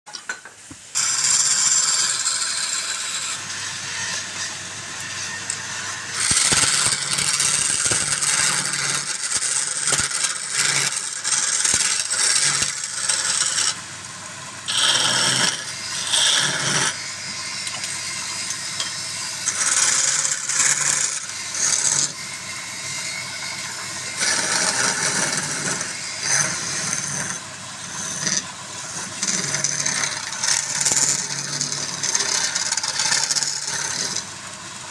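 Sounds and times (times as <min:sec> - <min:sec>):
tool scraping spinning wood: 0:01.0 - 0:13.8, 0:14.6 - 0:34.3
lathe motor hum: 0:01.0 - 0:34.3.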